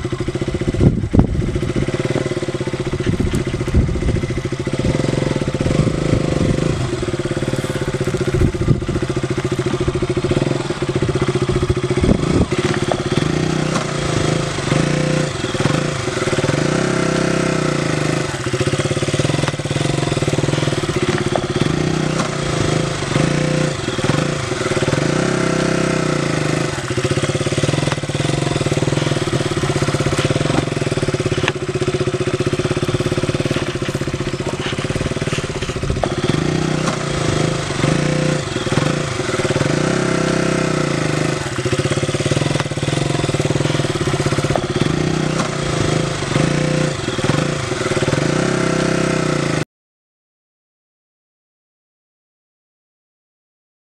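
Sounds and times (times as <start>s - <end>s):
motorcycle engine at low revs: 0.0s - 49.6s.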